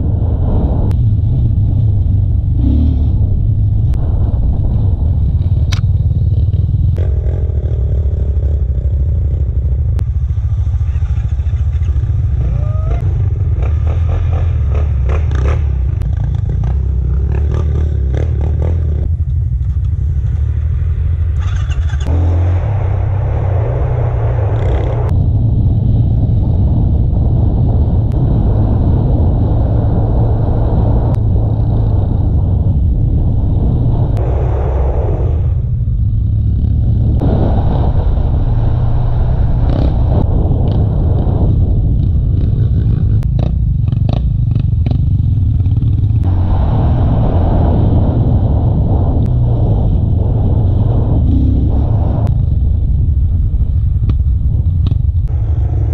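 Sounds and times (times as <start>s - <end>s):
atv engine rumbling: 0.0s - 55.9s.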